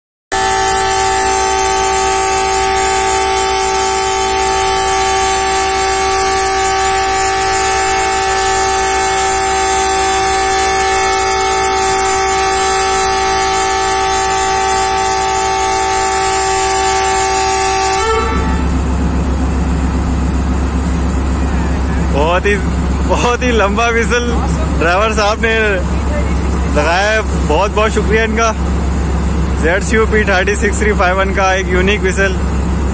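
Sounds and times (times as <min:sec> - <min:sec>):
locomotive engine rumble: 0:00.3 - 0:32.9
locomotive horn blast: 0:00.3 - 0:32.9.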